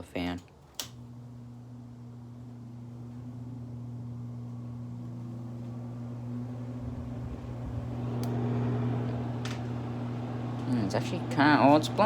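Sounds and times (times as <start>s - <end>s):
air conditioner motor hum: 0.0s - 12.0s.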